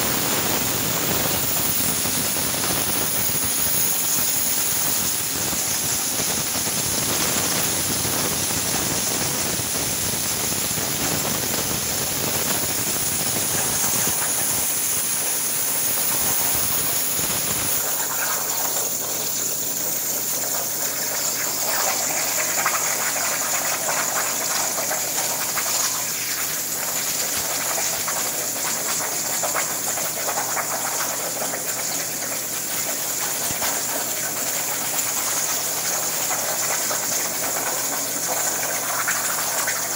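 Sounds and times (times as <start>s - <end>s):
plasma cutter hissing with whine: 0.0s - 39.9s.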